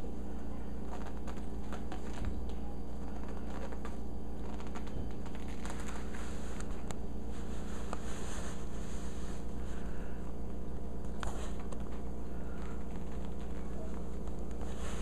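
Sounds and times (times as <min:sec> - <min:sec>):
steady low hum: 0:00.0 - 0:15.0
kitten claws scratching cloth: 0:00.8 - 0:09.7, 0:11.2 - 0:15.0.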